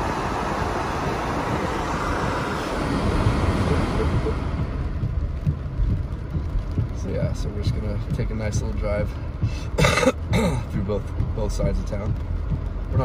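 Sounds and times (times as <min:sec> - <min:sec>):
low car rumble: 0:00.0 - 0:13.0
tyres hissing on wet road: 0:00.0 - 0:13.0.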